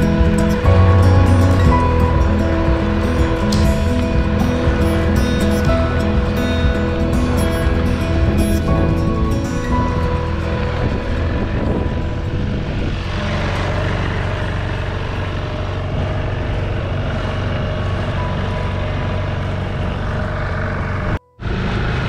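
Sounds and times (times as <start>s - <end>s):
wind and water rushing: 0.0s - 19.1s
outboard motor running: 0.0s - 22.0s.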